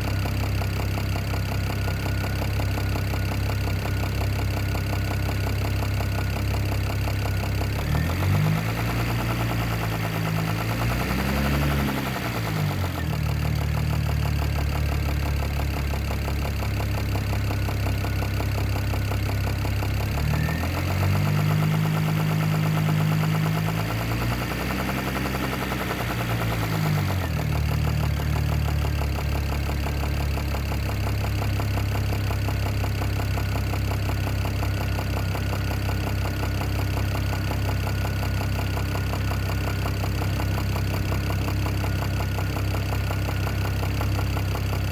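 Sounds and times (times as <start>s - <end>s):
car engine idling and revving: 0.0s - 44.9s
engine knocking: 0.0s - 44.9s.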